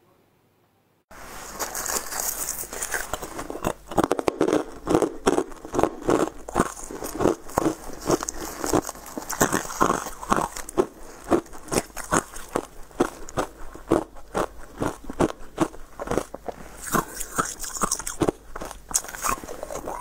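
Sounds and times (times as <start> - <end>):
crunching bites and chewing: 1.4 - 20.0.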